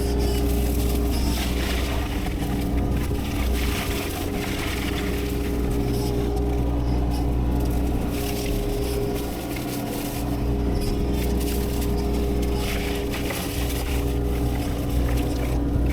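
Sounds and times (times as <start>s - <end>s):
heavy machine engine humming: 0.0s - 15.9s
rough crackling noise: 0.0s - 15.9s.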